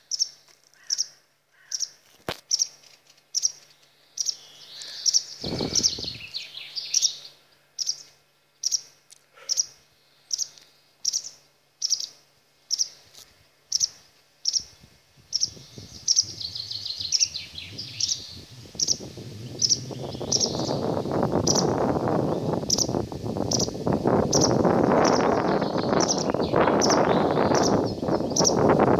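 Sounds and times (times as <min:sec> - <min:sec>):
songbird chirping: 0:00.0 - 0:28.9.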